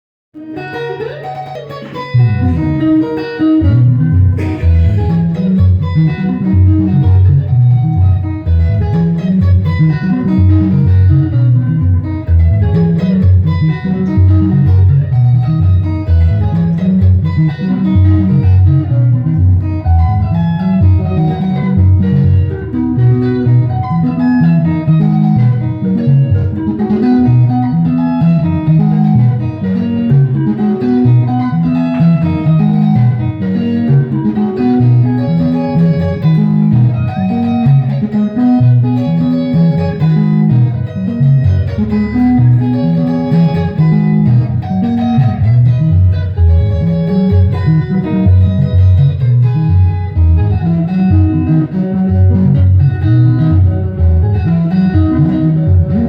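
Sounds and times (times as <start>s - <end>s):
bouncing bass guitar line: 0.4s - 56.0s
electric guitar lines: 0.4s - 56.0s.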